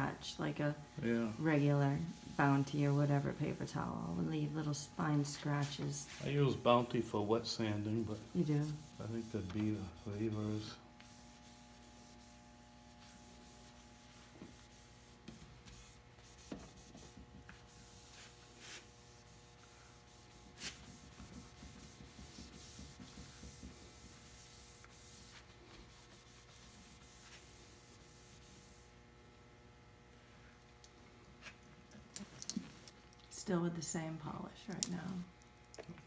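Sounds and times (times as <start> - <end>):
paper towel rubbing wood: 0.0 - 28.9.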